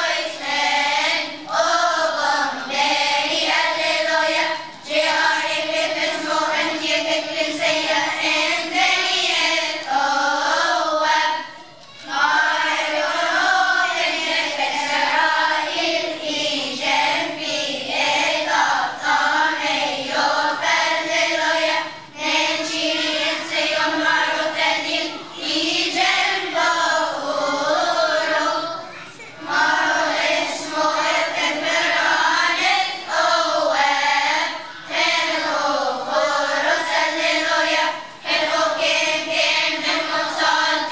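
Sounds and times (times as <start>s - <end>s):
children's choir singing: 0.0s - 40.9s.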